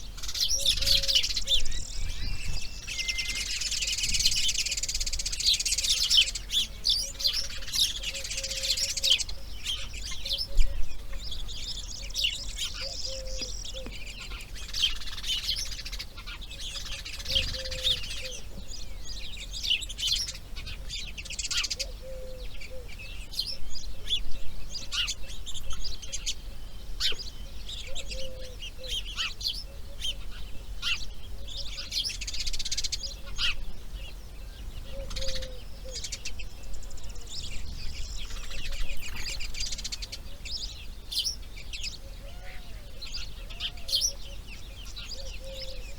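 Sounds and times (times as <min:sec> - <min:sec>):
birds chirping and singing: 0:00.0 - 0:45.9.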